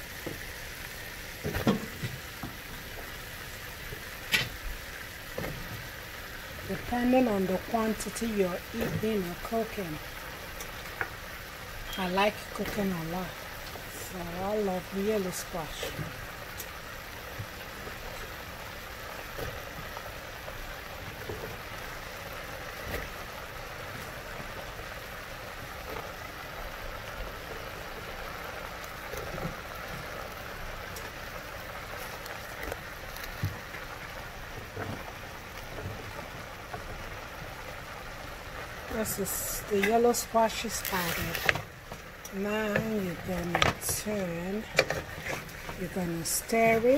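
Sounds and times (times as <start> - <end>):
oil popping: 0.0 - 46.9
vegetables sizzling in oil: 0.0 - 46.9.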